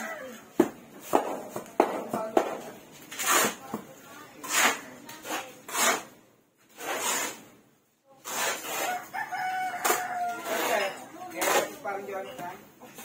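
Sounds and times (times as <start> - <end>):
shovels scraping mortar on concrete: 0.0 - 13.0.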